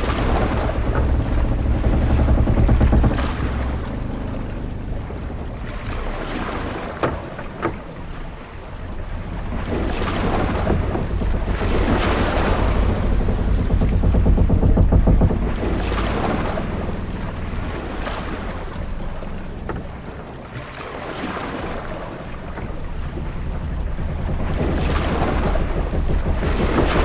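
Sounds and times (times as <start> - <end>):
knocks: 0.0 - 20.2, 22.2 - 27.0
waves washing against hull: 0.0 - 27.0.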